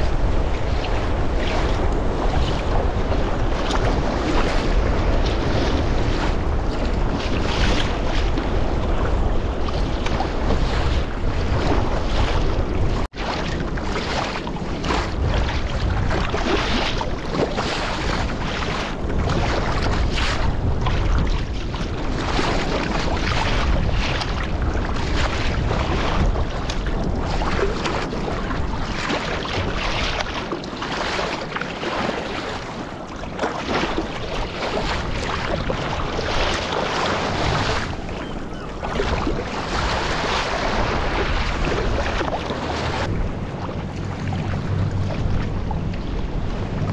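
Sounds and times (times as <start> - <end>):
sea splashing against kayak: 0.0 - 46.9
wind buffeting microphone: 0.0 - 46.9.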